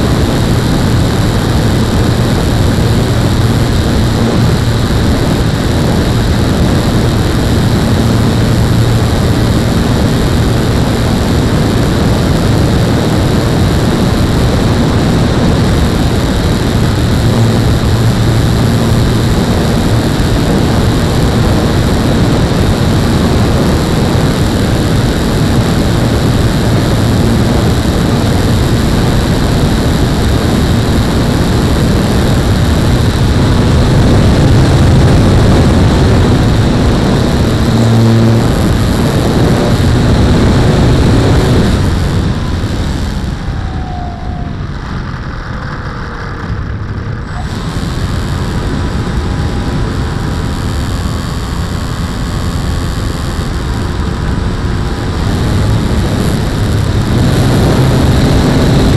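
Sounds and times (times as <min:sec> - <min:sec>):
faint falling whine: 0:00.0 - 0:58.9
wind and propeller rush: 0:00.0 - 0:58.9.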